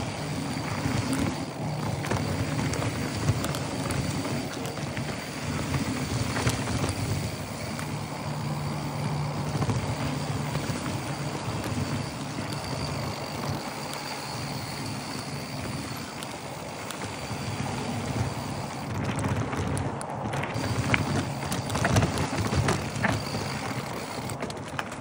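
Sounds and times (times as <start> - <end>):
bike clicks and rattles: 0.0 - 25.0
bike tyres rolling over gravel: 0.0 - 25.0
wind noise on microphone: 0.0 - 25.0.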